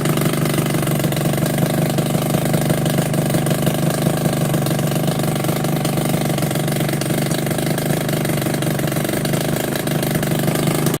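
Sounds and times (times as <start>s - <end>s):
two-stroke scooter engine idling: 0.0s - 11.0s.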